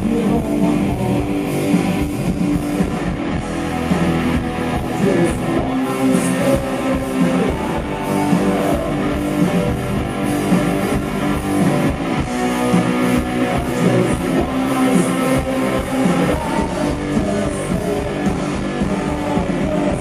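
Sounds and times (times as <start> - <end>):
drum kit beat: 0.0 - 20.0
electric guitars strumming: 0.0 - 20.0.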